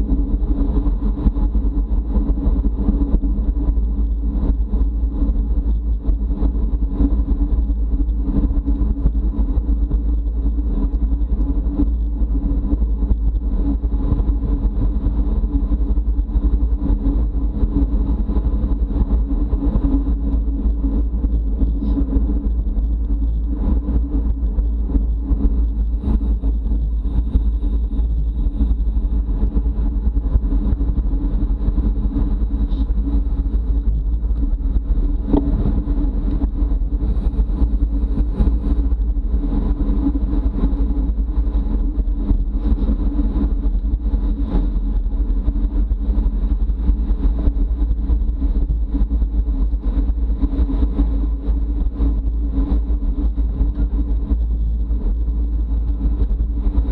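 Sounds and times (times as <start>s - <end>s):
wind rumble on microphone: 0.0s - 56.9s.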